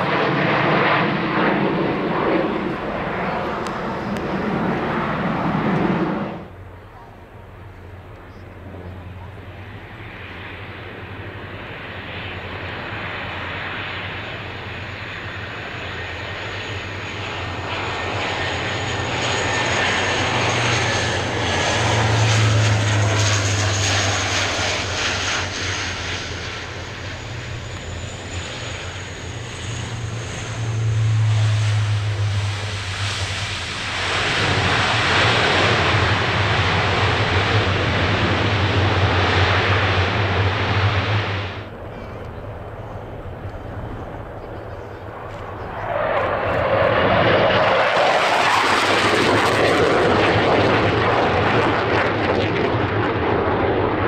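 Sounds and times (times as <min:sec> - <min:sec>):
turboprop aircraft flying low: 0:00.0 - 0:54.0.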